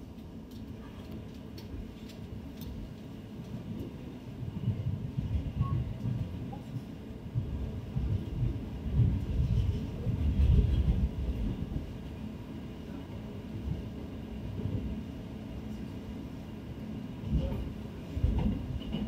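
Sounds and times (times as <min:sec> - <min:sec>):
train diesel engine rumble: 0:00.0 - 0:19.0.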